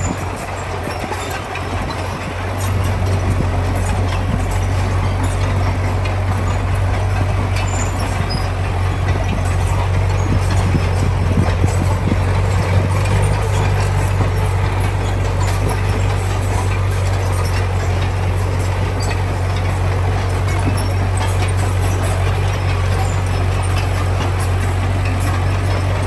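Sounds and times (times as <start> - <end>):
heavy diesel engine running: 0.0 - 26.0
short clatters: 0.0 - 26.0.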